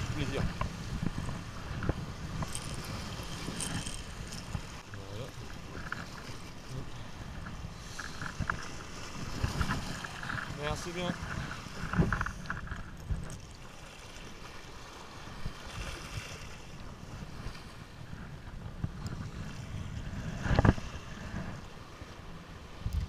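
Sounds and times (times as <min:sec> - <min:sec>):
small sea waves washing: 0:00.0 - 0:23.0
wind buffeting microphone: 0:00.0 - 0:23.0.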